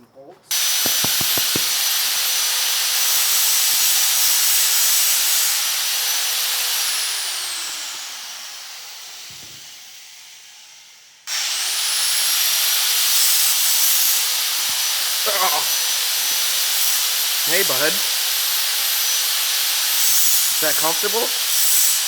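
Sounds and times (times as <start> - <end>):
power tool whining: 0.5 - 22.0.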